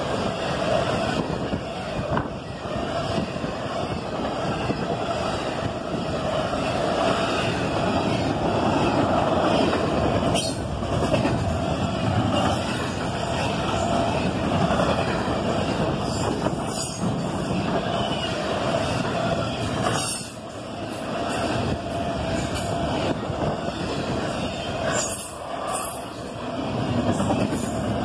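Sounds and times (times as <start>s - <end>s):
steel wheels on rails: 0.0s - 28.0s.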